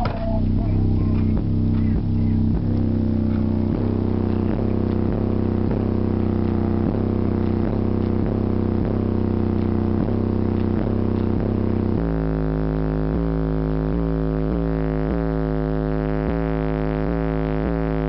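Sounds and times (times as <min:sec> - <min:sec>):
bass-heavy music through subwoofer: 0:00.0 - 0:18.0.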